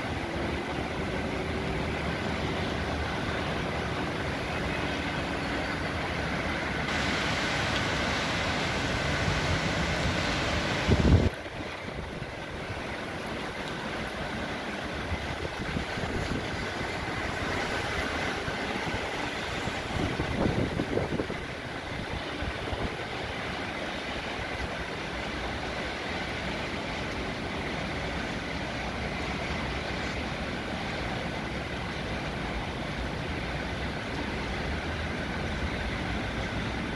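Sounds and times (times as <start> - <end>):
heavy rain hissing: 0.0 - 36.9
traffic rumble on wet roads: 0.0 - 36.9.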